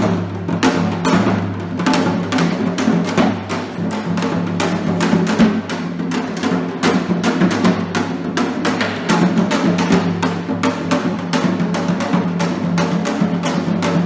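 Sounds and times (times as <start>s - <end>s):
drum strikes: 0.0s - 14.0s.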